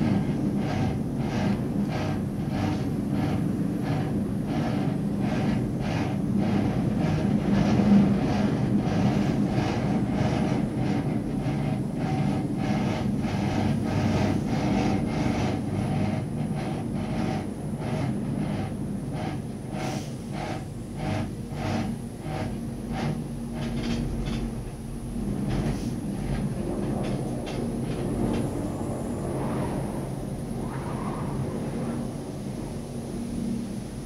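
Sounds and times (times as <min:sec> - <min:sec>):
gondola cabin rumble and hum: 0:00.0 - 0:34.0.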